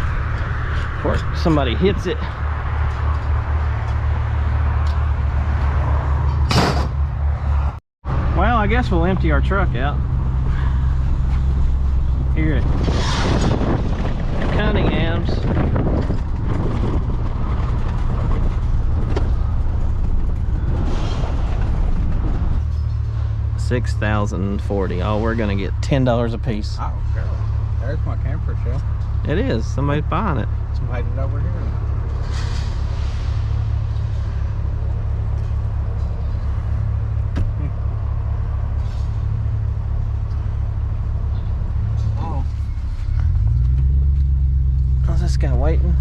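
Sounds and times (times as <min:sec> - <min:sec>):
truck engine rumble: 0:00.0 - 0:46.0.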